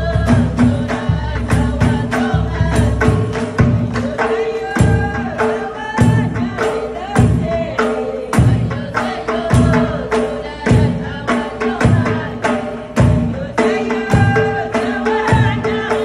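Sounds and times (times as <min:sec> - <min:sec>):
frame drums beating: 0:00.0 - 0:16.0
group of voices singing: 0:00.0 - 0:16.0.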